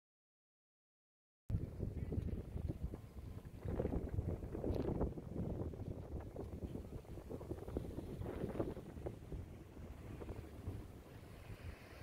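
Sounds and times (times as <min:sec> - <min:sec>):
wind buffeting microphone: 0:01.5 - 0:12.0.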